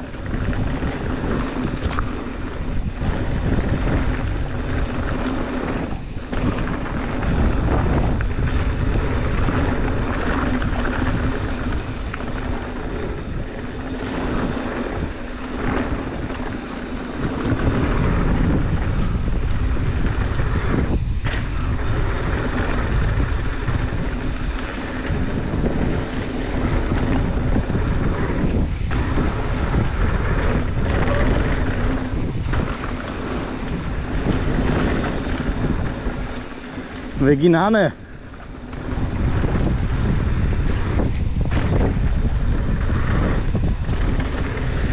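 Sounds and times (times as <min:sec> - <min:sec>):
bike tyres rolling on dirt: 0:00.0 - 0:44.9
wind on camera microphone: 0:00.0 - 0:44.9.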